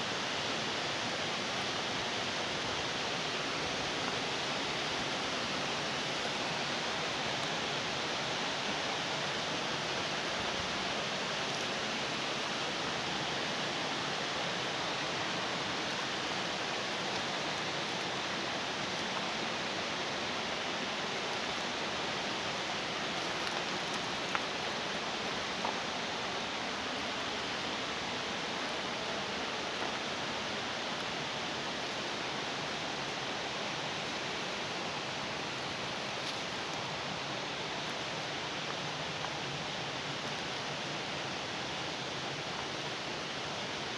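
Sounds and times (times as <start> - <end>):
water rushing over cascade: 0.0 - 43.9.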